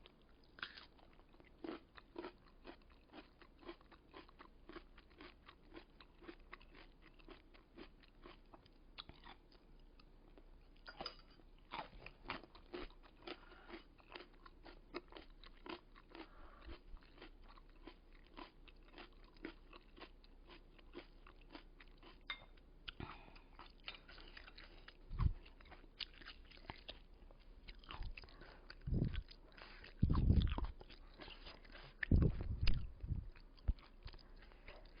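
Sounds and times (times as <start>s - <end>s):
crunchy chewing: 0.0s - 10.5s, 11.6s - 35.0s.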